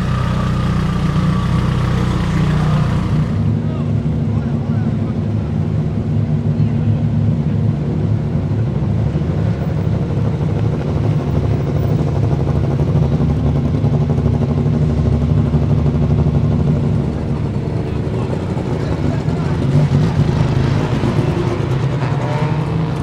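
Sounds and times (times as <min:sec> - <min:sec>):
car engine idling choppily: 0:00.0 - 0:21.1.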